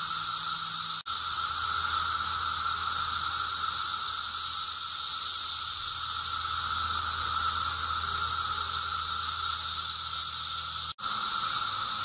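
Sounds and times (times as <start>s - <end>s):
cicadas chorus droning: 0.0s - 12.0s.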